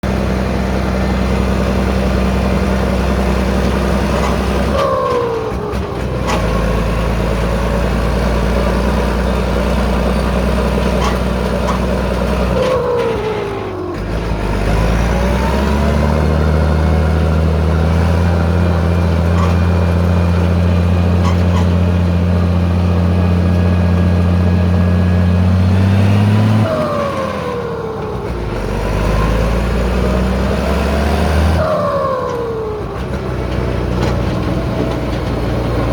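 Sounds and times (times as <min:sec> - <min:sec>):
tractor diesel engine rumbling: 0:00.0 - 0:35.9.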